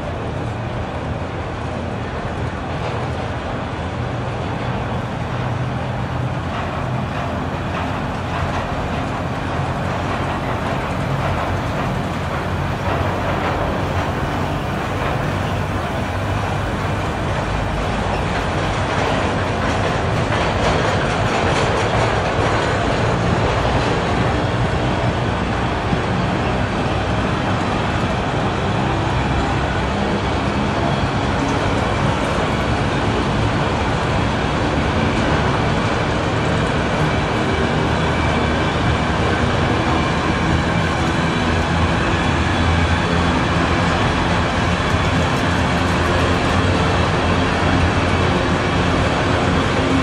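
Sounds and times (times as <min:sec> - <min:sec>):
freight train rolling past: 0:00.0 - 0:50.0.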